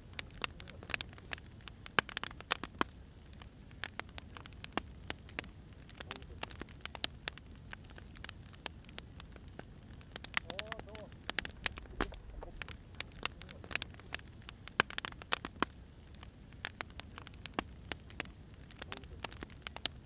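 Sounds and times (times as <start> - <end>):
faint low rumble: 0.0 - 20.0
firewood popping and snapping: 0.0 - 20.0.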